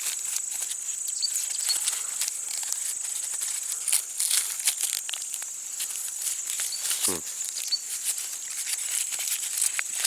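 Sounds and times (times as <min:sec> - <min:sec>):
corn husks crackling and rustling: 0:00.0 - 0:10.0
high-pitched insect trill: 0:00.3 - 0:08.6.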